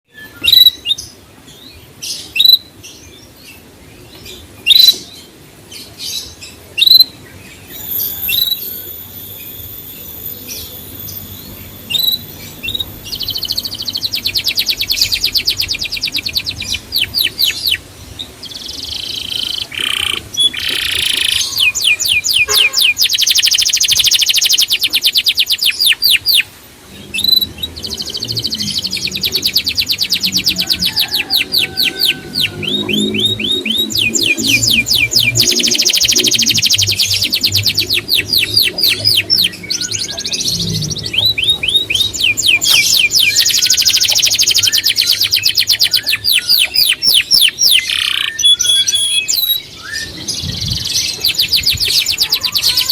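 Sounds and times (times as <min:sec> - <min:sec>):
songbirds chirping: 0:00.0 - 0:52.9
fast high bird trilling: 0:04.6 - 0:05.0, 0:07.7 - 0:17.8, 0:18.4 - 0:52.9.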